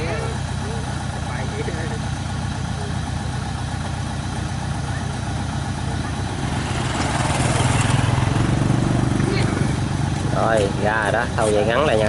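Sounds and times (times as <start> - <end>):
heavy machine engine chugging: 0.0 - 12.0.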